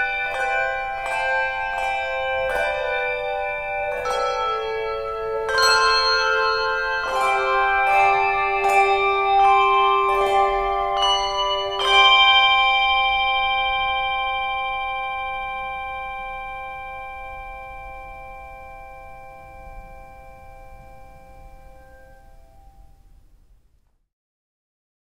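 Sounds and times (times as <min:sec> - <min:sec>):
bells ringing: 0:00.0 - 0:23.1.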